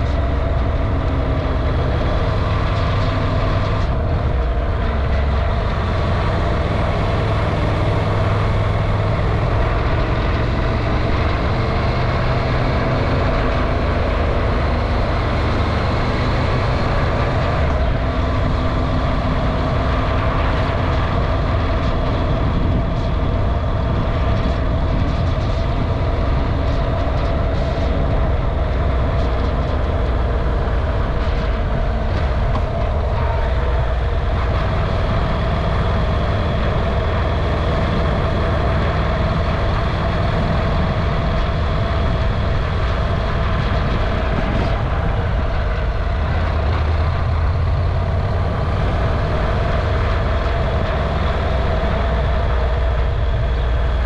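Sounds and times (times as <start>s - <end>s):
vehicle running drone: 0.0s - 54.0s.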